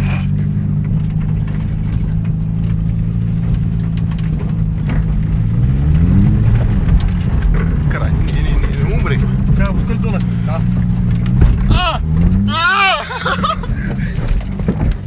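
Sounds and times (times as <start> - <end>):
car engine running and revving: 0.0 - 15.0
car knocks and rattles: 0.0 - 15.0.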